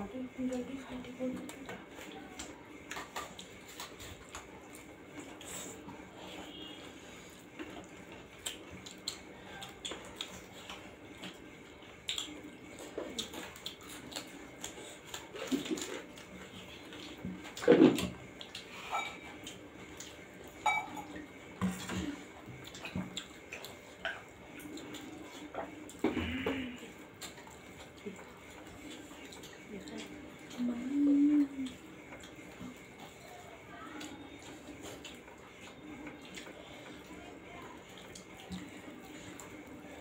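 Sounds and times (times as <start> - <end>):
wet chewing: 1.3 - 40.0.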